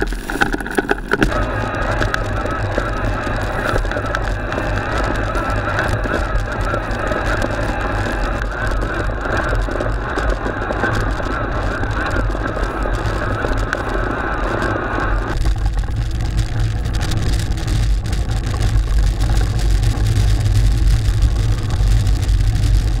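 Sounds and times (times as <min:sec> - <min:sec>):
low riding rumble: 0:00.0 - 0:23.0
tyres churning snow: 0:00.0 - 0:23.0
wind buffeting microphone: 0:01.0 - 0:23.0.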